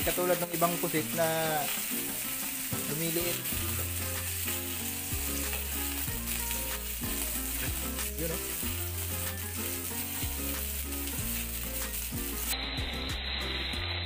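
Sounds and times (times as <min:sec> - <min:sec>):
squid sizzling in hot oil: 0:00.0 - 0:14.0.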